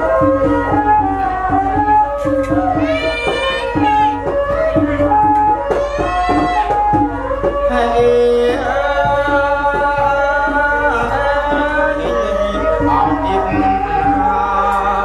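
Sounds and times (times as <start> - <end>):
hand drum strokes: 0.0 - 15.0
melody of bending notes: 0.0 - 15.0
person singing: 2.2 - 15.0.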